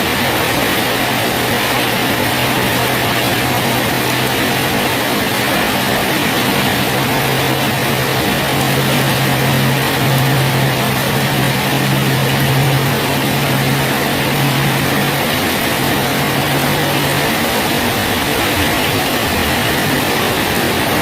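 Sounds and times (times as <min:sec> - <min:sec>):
heavy rain falling: 0:00.0 - 0:21.0
low steady hum: 0:00.0 - 0:21.0.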